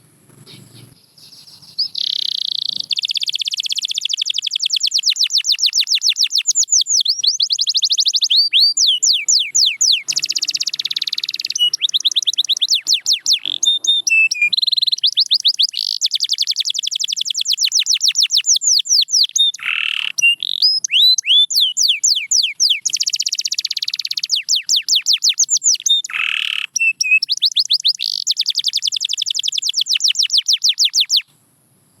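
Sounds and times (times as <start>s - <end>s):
canary singing trills: 0.0s - 31.3s.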